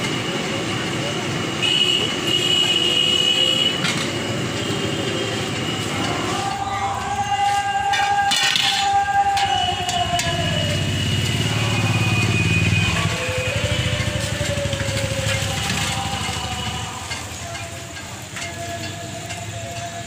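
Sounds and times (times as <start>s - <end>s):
street noise: 0.0s - 20.0s
vehicle engine droning: 0.0s - 20.0s.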